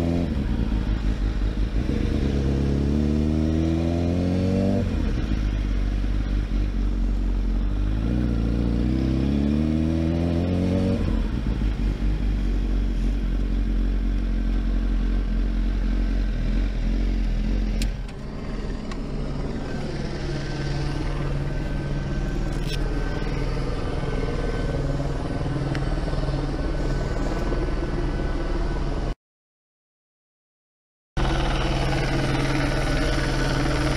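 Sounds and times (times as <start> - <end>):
motorcycle engine: 0.0 - 29.2, 31.2 - 33.9.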